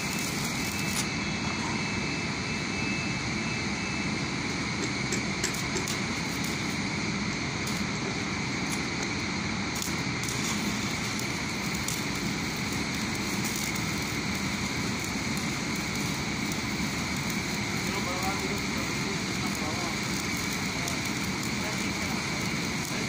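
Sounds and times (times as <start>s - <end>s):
arc welding crackling sizzle: 0.0s - 23.0s
constant background drone: 0.0s - 23.0s.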